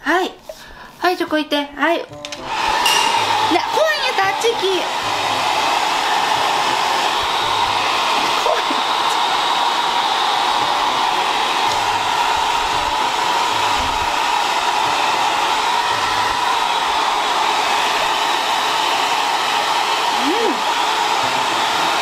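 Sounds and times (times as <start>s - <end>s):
hair dryer blowing: 2.4s - 22.0s.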